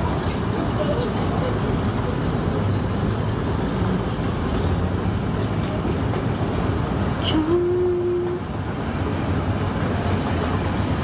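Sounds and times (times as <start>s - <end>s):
moving train rumble: 0.0s - 11.0s.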